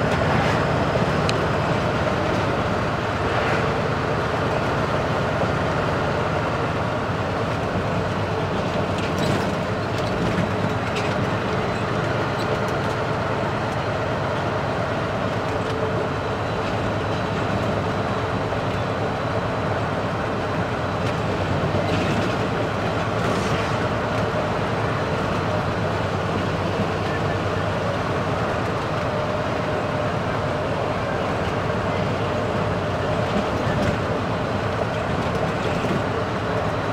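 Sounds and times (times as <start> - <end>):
diesel engine running: 0.0 - 36.9
road noise: 0.0 - 36.9.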